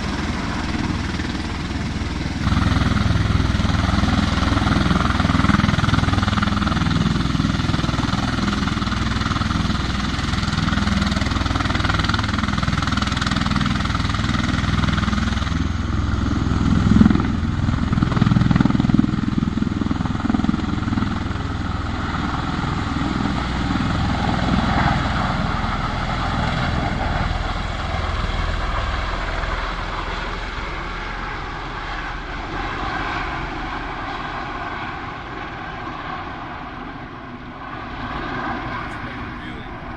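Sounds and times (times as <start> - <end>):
military vehicle engine drone: 0.0 - 24.6, 25.5 - 31.3, 37.4 - 39.9.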